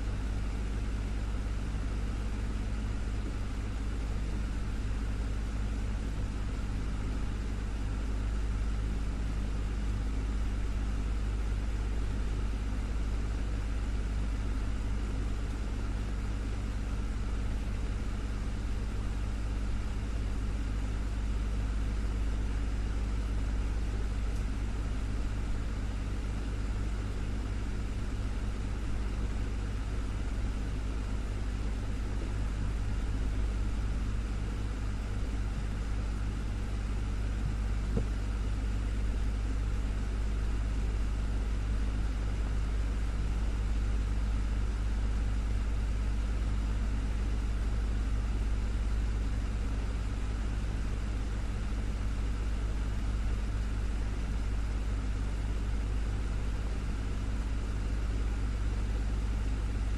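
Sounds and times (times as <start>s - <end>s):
desktop fan running: 0.0s - 59.9s.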